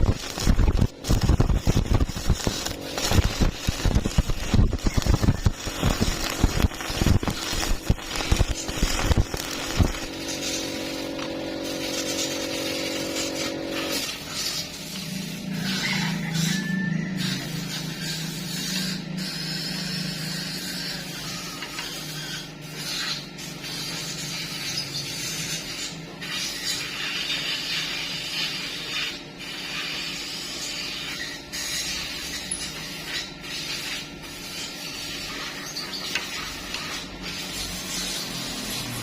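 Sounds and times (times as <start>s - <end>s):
welding arc crackling: 0.0s - 39.0s.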